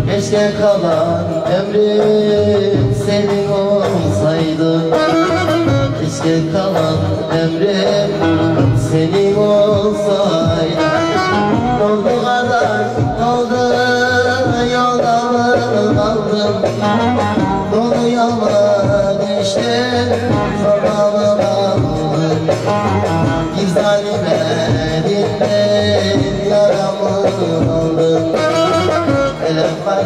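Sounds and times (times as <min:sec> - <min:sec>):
man singing: 0:00.0 - 0:30.0.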